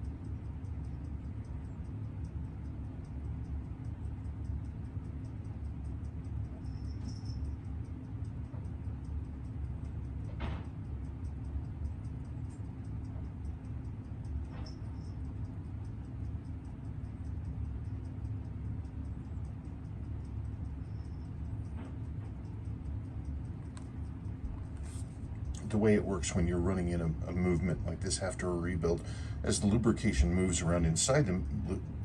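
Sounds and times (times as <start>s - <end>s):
steady low hum: 0.0s - 32.0s
watch movement ticking: 0.0s - 32.0s.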